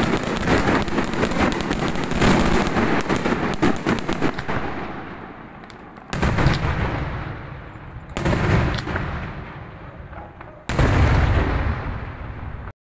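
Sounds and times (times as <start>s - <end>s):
firework blasts with rolling echo: 0.0s - 12.7s.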